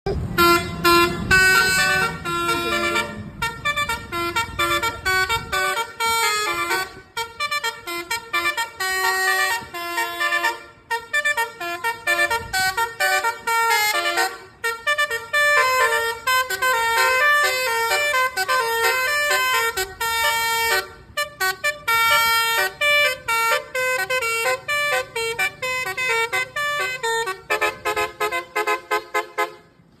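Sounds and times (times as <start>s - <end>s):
multi-tone bus horn melody: 0.1s - 30.0s.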